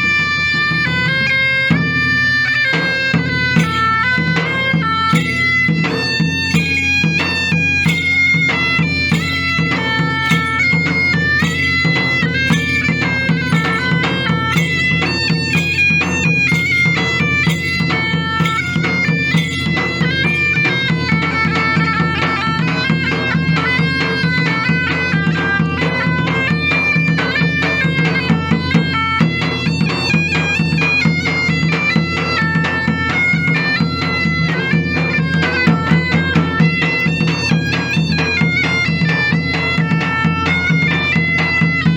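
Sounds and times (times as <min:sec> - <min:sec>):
bagpipe melody over drones: 0:00.0 - 0:41.9.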